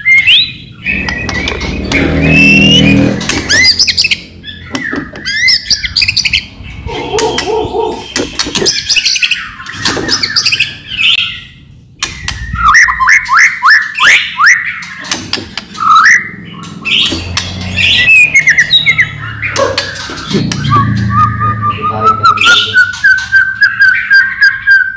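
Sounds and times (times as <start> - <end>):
bird singing varied whistled song: 0.0 - 6.4, 7.0 - 14.9, 17.8 - 24.9
bird harsh clicking calls: 0.2 - 11.2, 12.0 - 21.4, 22.3 - 24.5.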